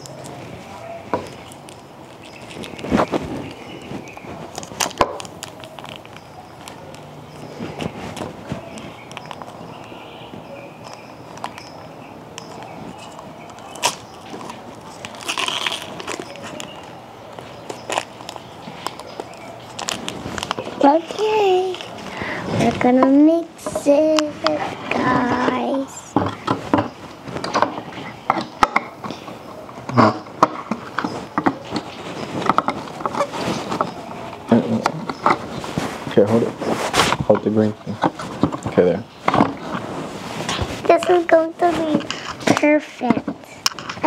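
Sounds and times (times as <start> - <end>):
materials rustling: 0.0 - 44.0.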